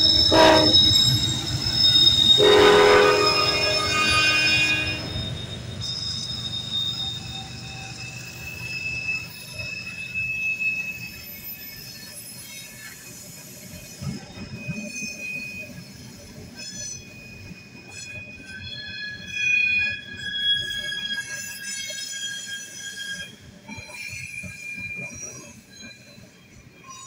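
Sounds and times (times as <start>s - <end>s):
steel wheels squealing on rails: 0.0s - 27.0s.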